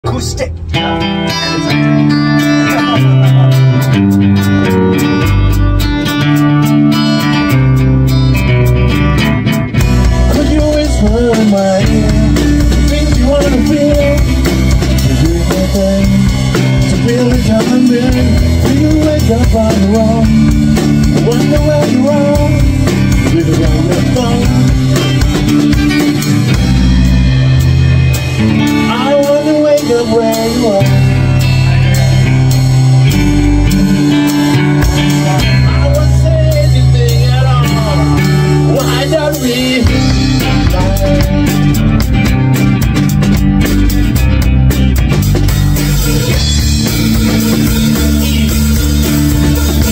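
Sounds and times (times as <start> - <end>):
drum kit groove: 0.0 - 49.9
electric guitar lead lines: 0.0 - 49.9
strummed acoustic guitar: 0.7 - 49.9.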